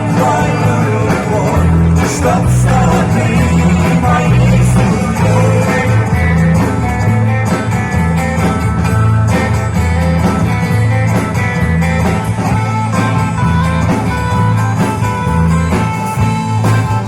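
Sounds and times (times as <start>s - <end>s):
bass line: 0.0s - 17.0s
guitar: 0.0s - 17.0s
live band playing: 0.0s - 17.0s.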